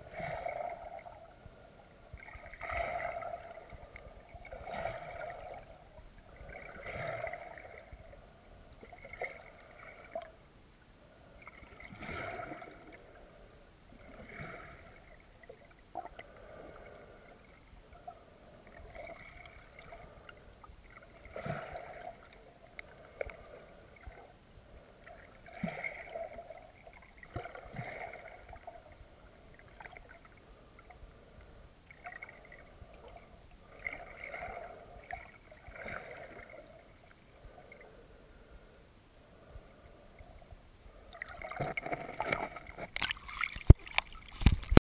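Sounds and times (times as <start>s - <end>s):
muffled underwater river water: 0.0s - 44.8s.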